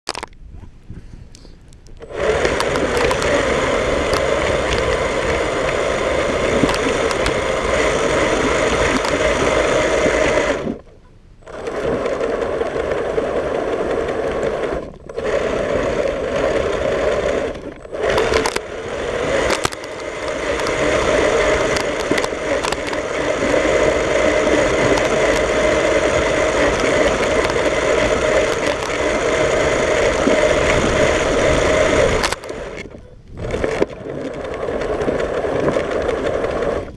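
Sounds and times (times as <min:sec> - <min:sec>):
toy snow plow motor whirring: 0:02.0 - 0:36.9.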